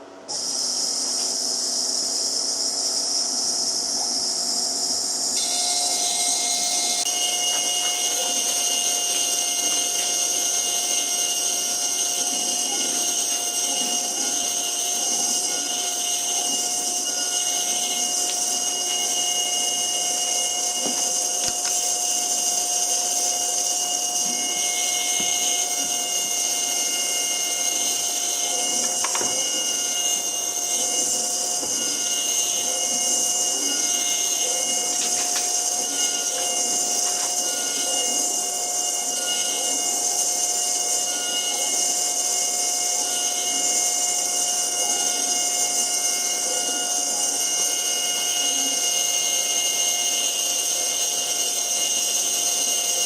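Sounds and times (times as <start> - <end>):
spindle whine cutting wood: 0.0 - 53.0.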